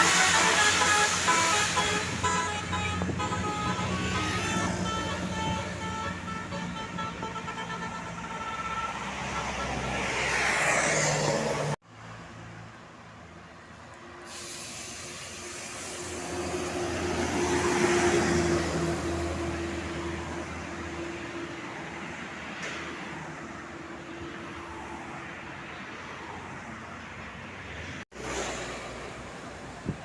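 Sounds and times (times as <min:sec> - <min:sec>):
buses passing: 0:00.0 - 0:30.0.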